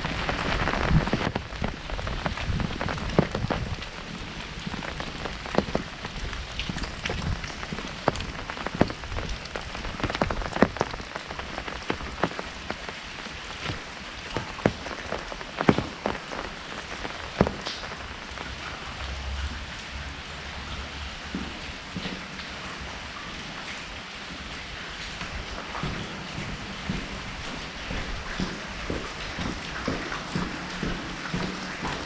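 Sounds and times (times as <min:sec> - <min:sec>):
raindrops tapping on umbrella: 0:00.0 - 0:32.0
rainfall hiss: 0:00.0 - 0:32.0.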